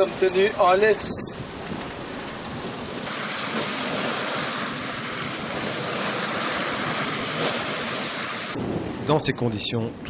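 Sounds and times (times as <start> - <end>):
breaking sea water: 0.0 - 8.6
rushing wind: 0.0 - 10.0.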